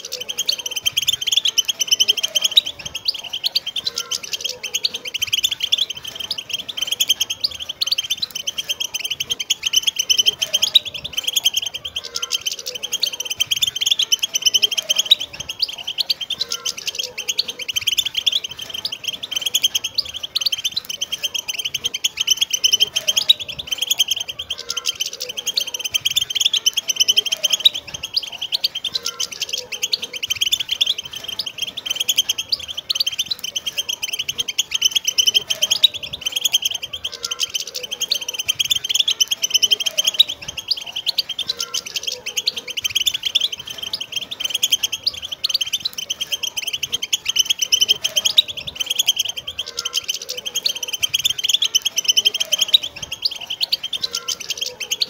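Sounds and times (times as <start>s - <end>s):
finches twittering: 0.0s - 55.0s.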